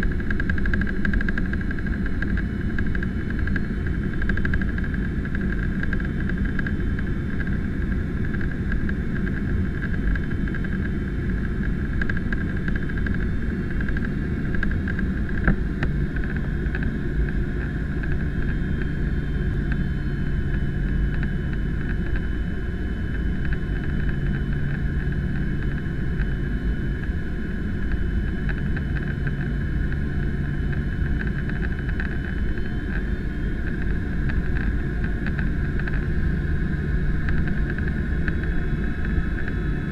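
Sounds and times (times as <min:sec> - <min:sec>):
airplane cabin rumble: 0:00.0 - 0:39.9
steady high hum: 0:00.0 - 0:39.9.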